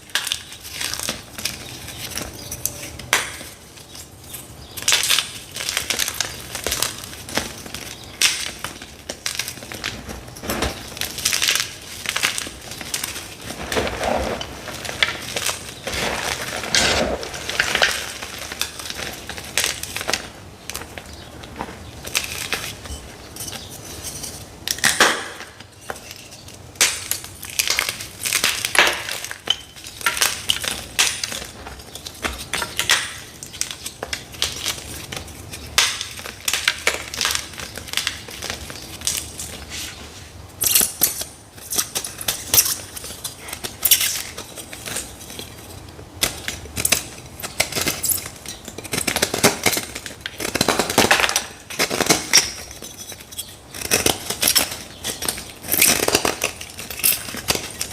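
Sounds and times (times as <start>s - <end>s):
chalk blocks crunching: 0.0s - 57.9s.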